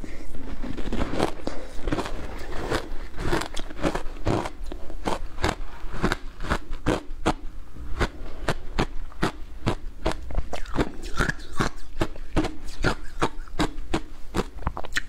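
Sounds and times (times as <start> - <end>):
crunching and chewing ice: 0.1 - 15.0.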